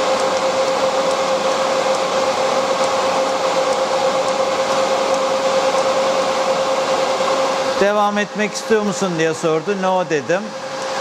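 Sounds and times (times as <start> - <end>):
cooling fans whooshing: 0.0 - 11.0.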